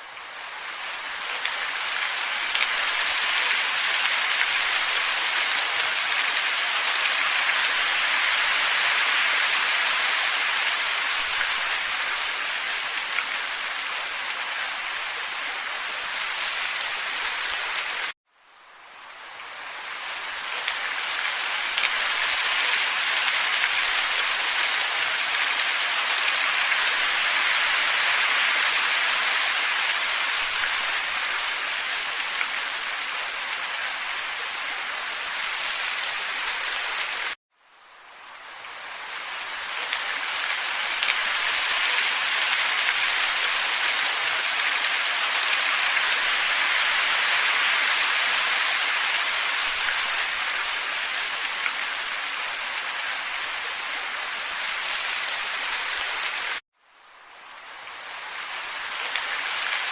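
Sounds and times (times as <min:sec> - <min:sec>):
steady hiss of nature sounds: 0:00.0 - 0:59.9.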